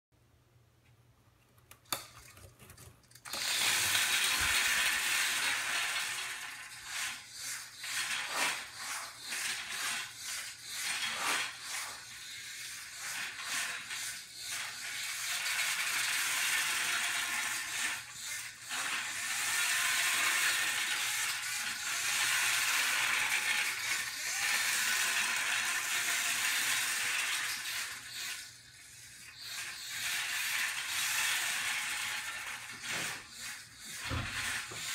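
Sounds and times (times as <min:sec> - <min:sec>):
robot motors whirring: 0:03.3 - 0:34.9.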